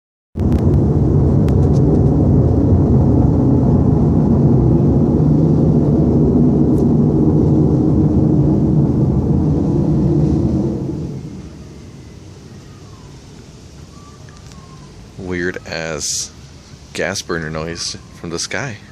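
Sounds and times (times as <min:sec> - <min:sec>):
loud roar from the sky: 0:00.4 - 0:16.1.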